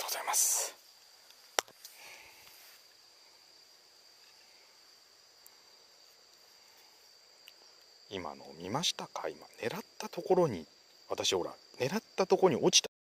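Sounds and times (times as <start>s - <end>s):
high insect trill: 0.0s - 12.9s.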